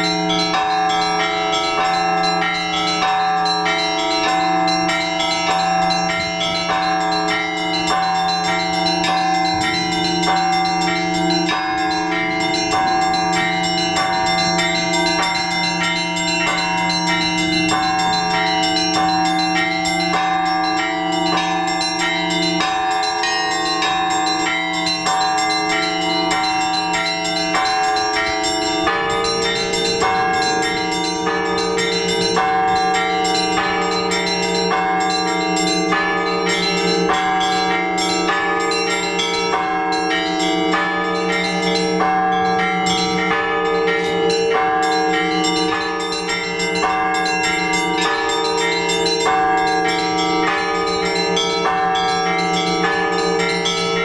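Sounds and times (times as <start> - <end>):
large bells ringing: 0.0 - 54.0
small bells struck quickly: 0.0 - 54.0.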